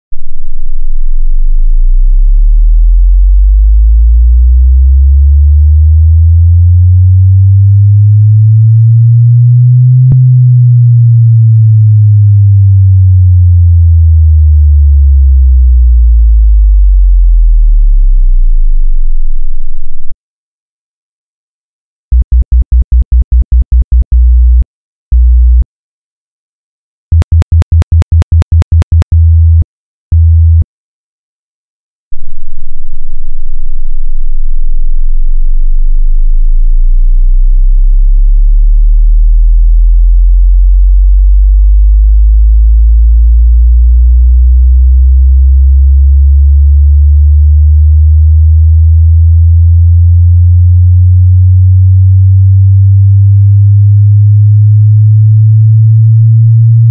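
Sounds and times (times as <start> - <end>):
pulsed bass test tone: 0.1 - 20.2, 22.1 - 25.7, 27.1 - 30.7, 32.1 - 56.9
rising low sine tone: 0.1 - 20.2, 22.1 - 25.7, 27.1 - 30.7, 32.1 - 56.9.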